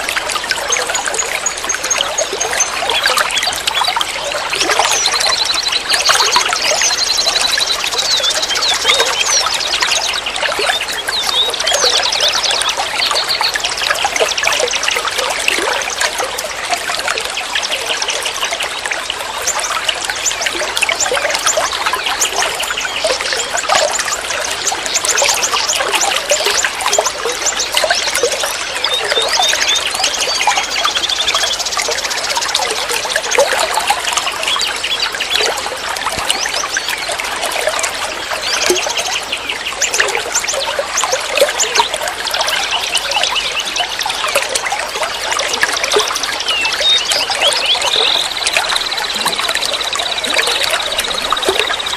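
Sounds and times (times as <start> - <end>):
water trickling and gurgling: 0.0 - 51.9.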